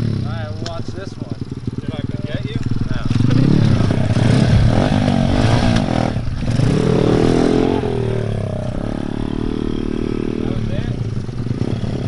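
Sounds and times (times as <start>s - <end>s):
pit bike engine revving: 0.0s - 12.0s.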